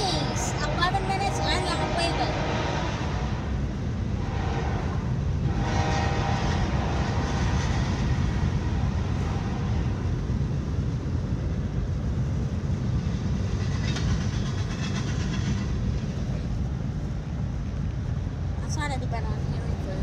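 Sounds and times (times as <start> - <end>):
car tyre and engine rumble: 0.0 - 20.0
train rumbling on tracks: 0.0 - 20.0.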